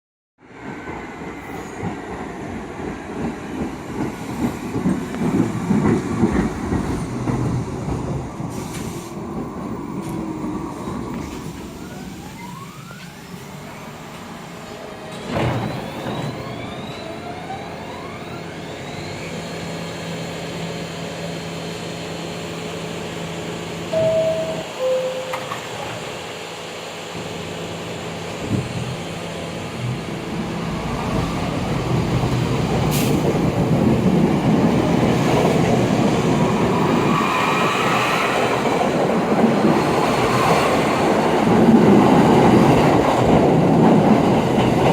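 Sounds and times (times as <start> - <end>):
subway train rumbling: 0.4 - 44.9.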